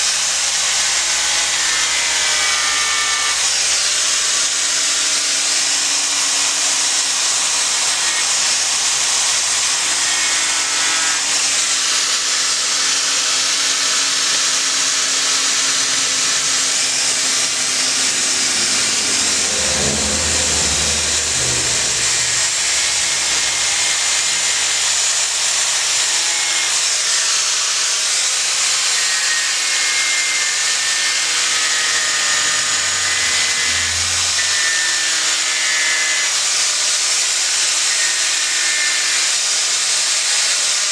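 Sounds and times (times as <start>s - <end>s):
angle grinder grinding wood: 0.0s - 37.0s.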